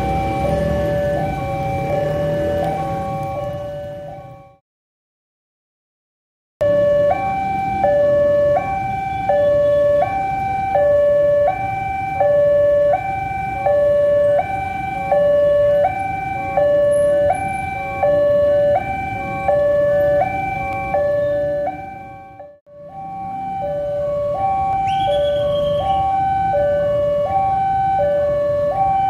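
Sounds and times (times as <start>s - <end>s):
level crossing alarm two-tone signal: 0.0s - 4.6s, 6.6s - 29.0s
street rumble: 0.0s - 4.6s, 6.6s - 29.0s.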